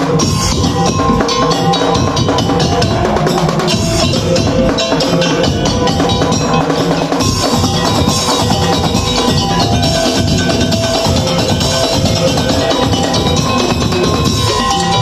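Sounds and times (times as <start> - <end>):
drums and percussion beat: 0.0 - 15.0
held melody notes: 0.1 - 15.0.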